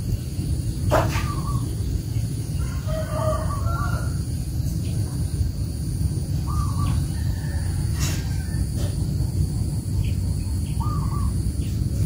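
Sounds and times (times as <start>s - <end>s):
steady low rumble: 0.0s - 12.0s
bird calls: 0.1s - 5.4s, 6.3s - 9.0s, 9.8s - 12.0s.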